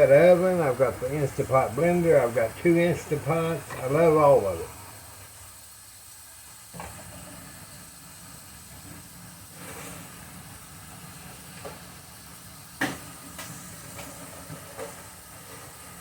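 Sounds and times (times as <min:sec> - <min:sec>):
patties sizzling in a skillet: 0:00.0 - 0:16.0.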